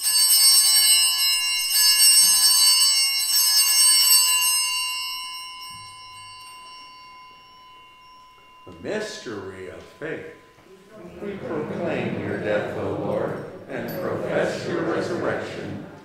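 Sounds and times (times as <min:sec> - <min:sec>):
altar bells jangling: 0:00.0 - 0:10.9, 0:13.3 - 0:15.3.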